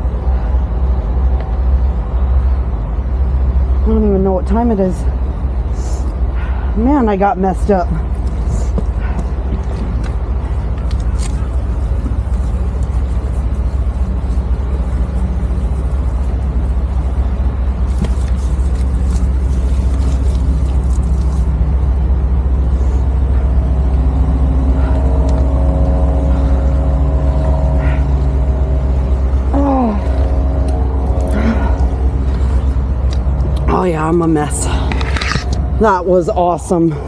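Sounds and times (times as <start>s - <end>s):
city traffic rumble: 0.0s - 37.0s
engine drone: 0.0s - 37.0s.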